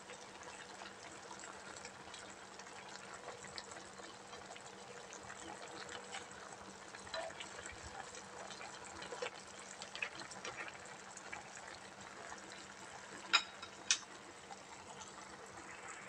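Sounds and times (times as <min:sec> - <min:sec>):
soup simmering with bubbling pops: 0:00.0 - 0:16.0.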